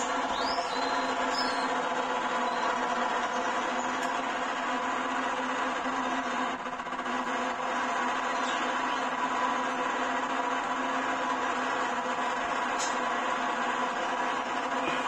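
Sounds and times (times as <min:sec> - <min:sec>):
small electric motor humming: 0:00.0 - 0:15.0.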